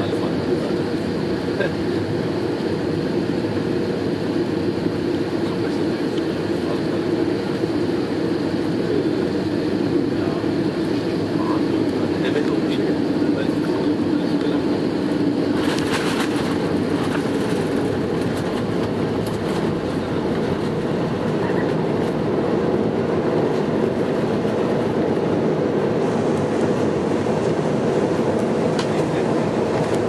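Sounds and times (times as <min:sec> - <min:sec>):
aircraft engine and wheel rumble: 0:00.0 - 0:30.0.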